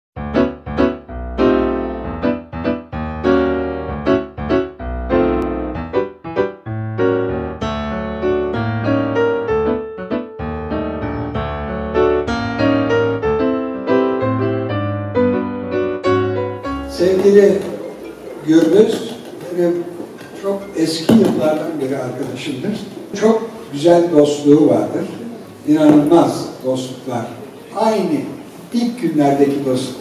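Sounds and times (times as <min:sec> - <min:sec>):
piano music: 0:00.2 - 0:28.7.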